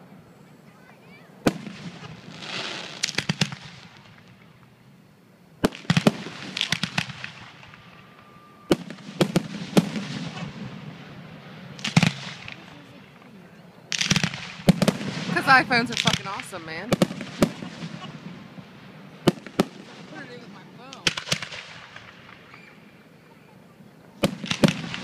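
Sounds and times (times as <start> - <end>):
fireworks crackling and hissing: 0.0 - 25.0
firework shells bursting: 1.4 - 4.8, 5.6 - 20.3, 20.9 - 23.2, 24.2 - 25.0.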